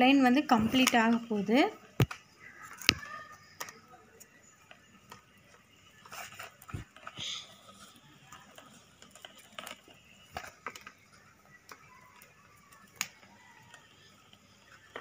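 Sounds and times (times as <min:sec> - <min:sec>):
plastic wire clicking and rustling: 0:00.3 - 0:15.0.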